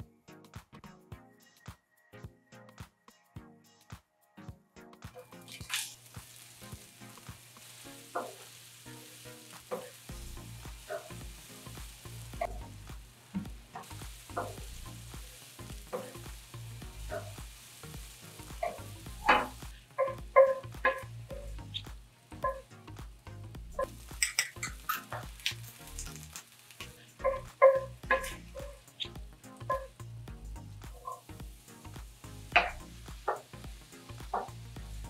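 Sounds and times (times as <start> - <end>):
vegetables sizzling in oil: 5.2 - 35.0.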